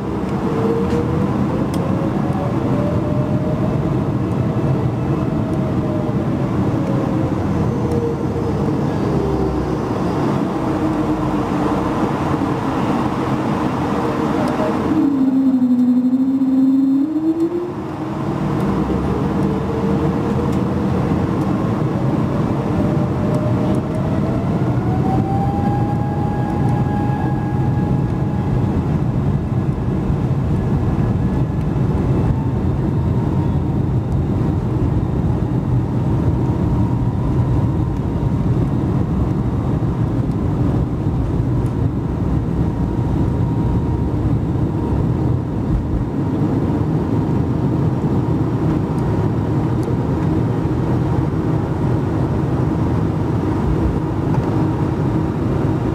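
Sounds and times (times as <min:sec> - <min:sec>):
jet engines spooling up: 0:00.0 - 0:55.9.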